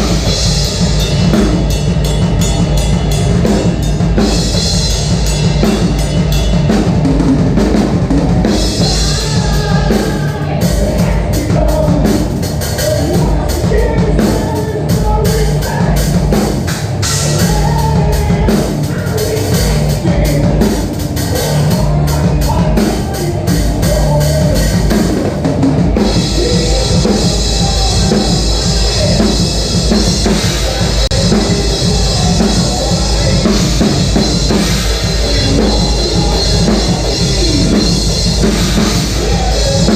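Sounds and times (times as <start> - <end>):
drum kit beat: 0.0 - 39.9
rock music: 0.0 - 39.9.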